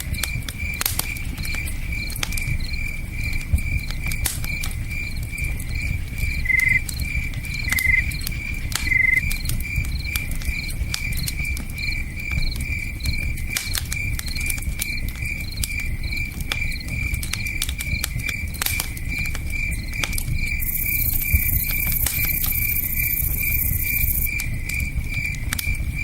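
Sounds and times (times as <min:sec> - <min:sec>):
campfire crackling and popping: 0:00.0 - 0:26.0
cricket trilling: 0:00.0 - 0:26.0
crickets chirping: 0:00.0 - 0:26.0.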